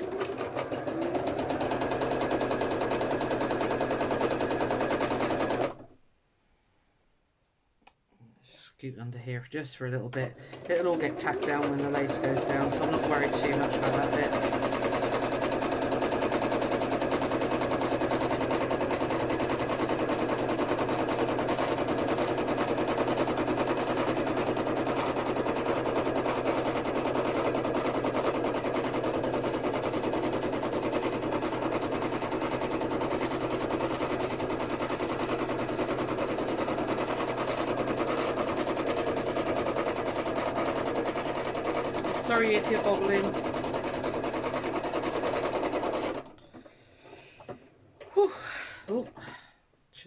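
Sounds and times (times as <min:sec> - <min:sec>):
sewing machine running: 0:00.0 - 0:06.0, 0:10.2 - 0:46.4.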